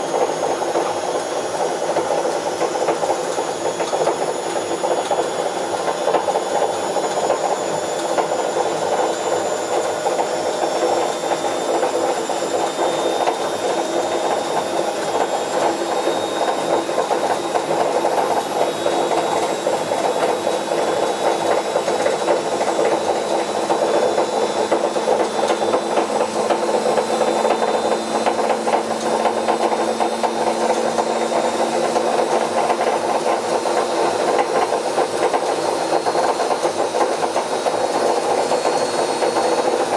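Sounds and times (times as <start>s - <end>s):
washing machine drum turning: 0.0s - 39.9s.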